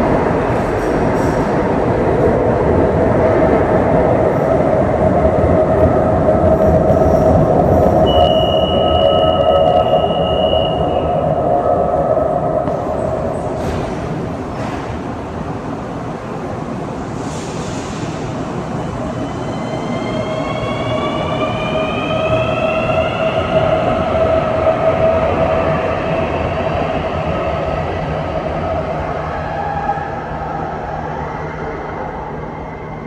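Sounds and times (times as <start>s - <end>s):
metro train cabin running noise: 0.0s - 33.0s.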